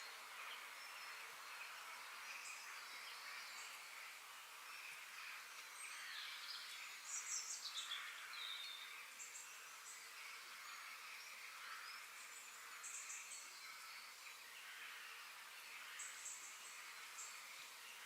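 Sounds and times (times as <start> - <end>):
birds chirping and trilling: 0.0 - 18.0
faint high hiss: 0.0 - 18.0.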